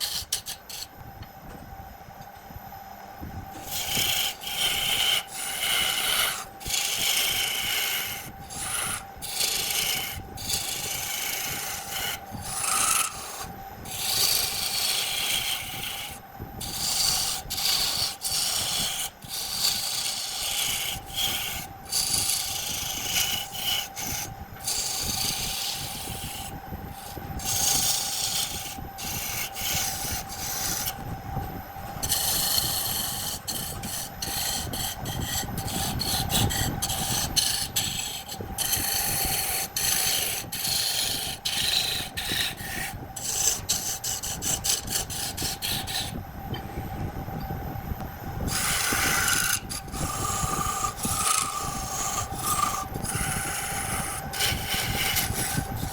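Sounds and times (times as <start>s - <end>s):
wood lathe humming: 0.0s - 0.9s, 3.4s - 31.0s, 31.7s - 46.7s, 48.4s - 55.9s
turning tool scraping spinning wood: 0.0s - 1.2s, 3.4s - 46.7s, 48.4s - 55.9s.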